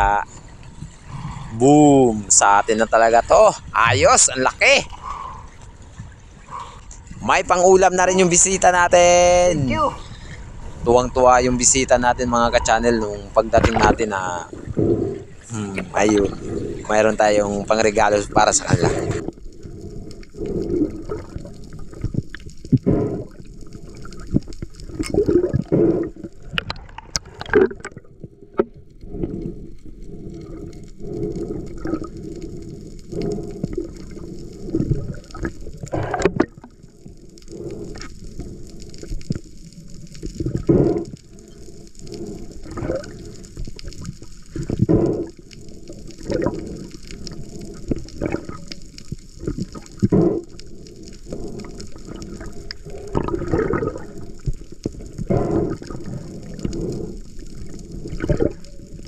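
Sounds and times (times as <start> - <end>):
faint steady hiss: 0.0 - 59.0
water bubbling underwater: 11.6 - 59.0.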